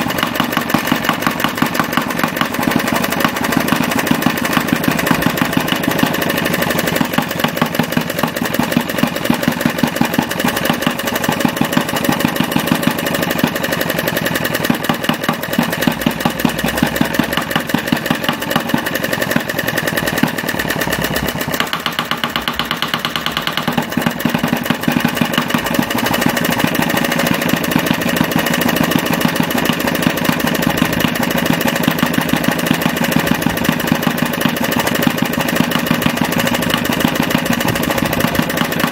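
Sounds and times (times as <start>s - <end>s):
model diesel engine running: 0.0s - 38.9s.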